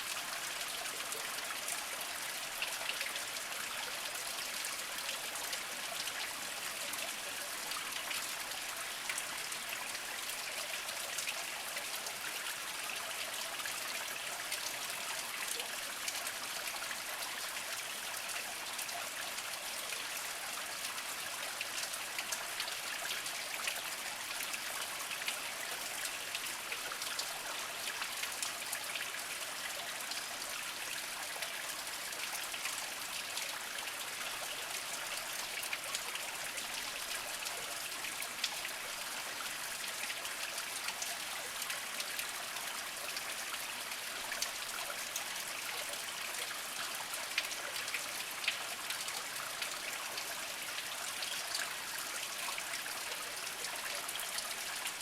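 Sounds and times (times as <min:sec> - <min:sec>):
spring water trickling over rocks: 0:00.0 - 0:55.0.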